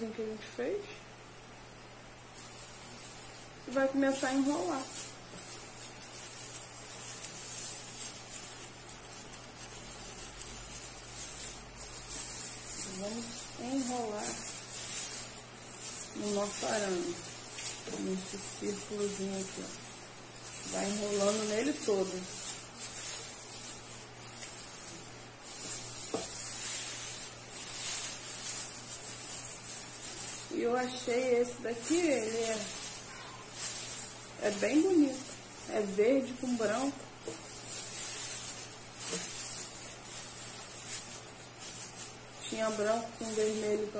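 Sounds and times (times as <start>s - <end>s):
tinsel garland rustling: 2.2s - 43.9s.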